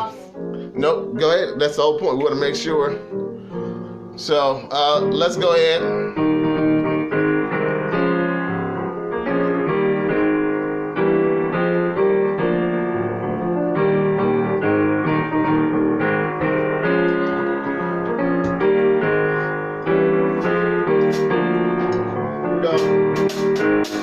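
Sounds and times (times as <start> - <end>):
keyboard piano chords: 0.0 - 24.0.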